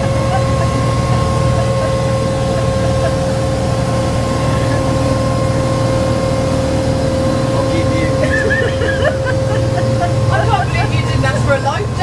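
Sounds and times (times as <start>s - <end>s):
engine whine: 0.0s - 12.0s
motorboat engine rumbling: 0.0s - 12.0s.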